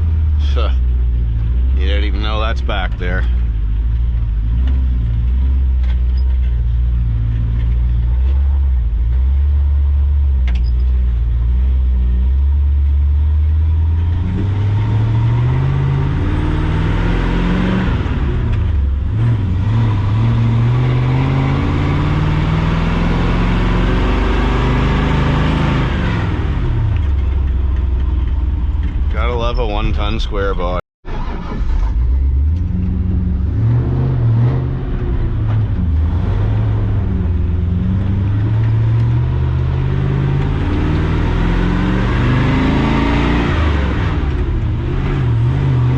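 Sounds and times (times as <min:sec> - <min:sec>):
truck engine accelerating: 0:00.0 - 0:45.9.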